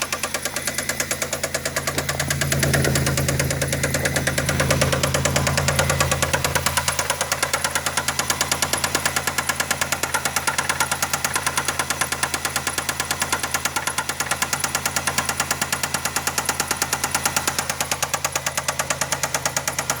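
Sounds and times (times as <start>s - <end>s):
car engine idling with knock: 0.0s - 20.0s.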